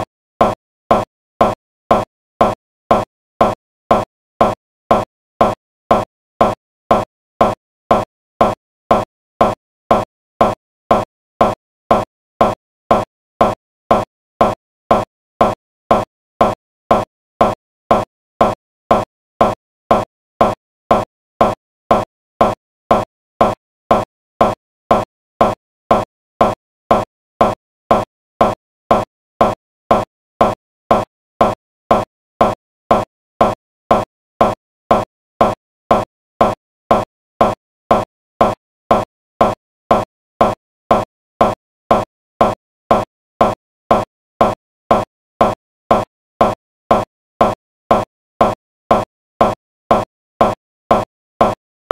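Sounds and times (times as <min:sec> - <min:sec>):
repeating short blip: 0:00.0 - 0:51.6.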